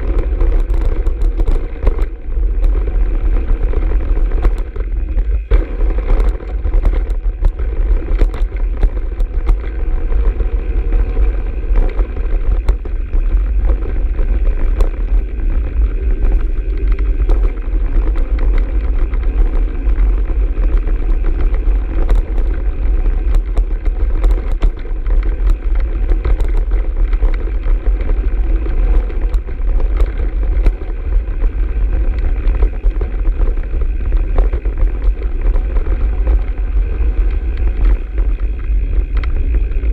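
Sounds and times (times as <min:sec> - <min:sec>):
bike clicks and rattles: 0:00.0 - 0:39.9
bike tyre noise: 0:00.0 - 0:39.9
wind rumbling on microphone: 0:00.0 - 0:39.9.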